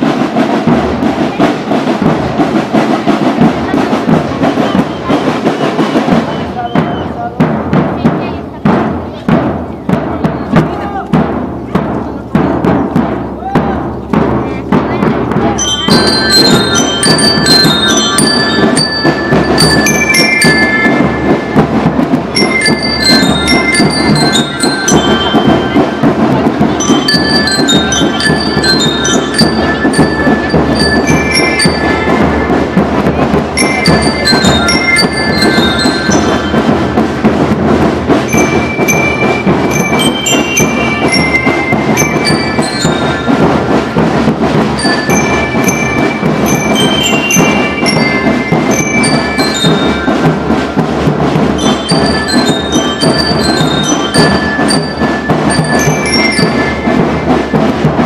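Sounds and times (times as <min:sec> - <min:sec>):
bell lyres playing melody: 0:00.0 - 0:58.0
steady drumming: 0:00.0 - 0:58.0.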